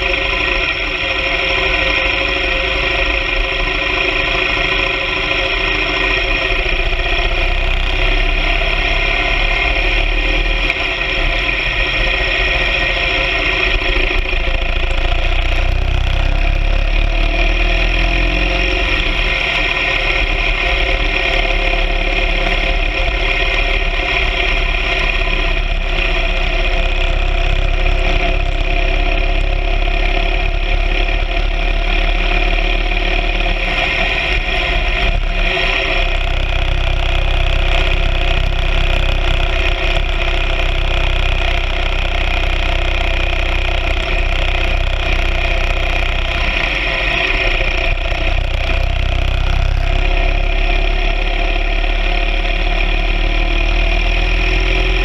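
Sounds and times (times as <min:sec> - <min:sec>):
motorcycle engine rumbling: 0:00.0 - 0:55.0.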